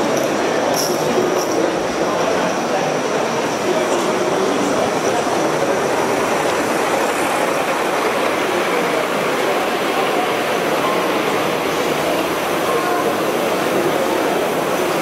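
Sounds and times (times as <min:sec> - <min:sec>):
busy hall background: 0:00.0 - 0:15.0
model train wheels rolling on rails: 0:00.0 - 0:15.0.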